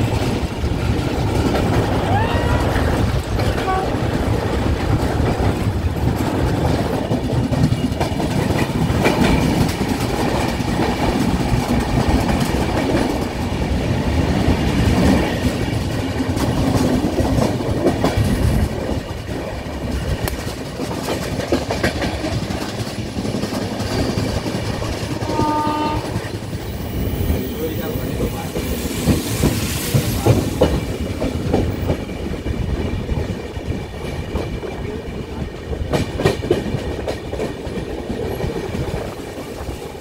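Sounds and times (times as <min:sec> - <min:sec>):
train rumble: 0:00.0 - 0:40.0
wheels clacking over rail joints: 0:00.0 - 0:40.0.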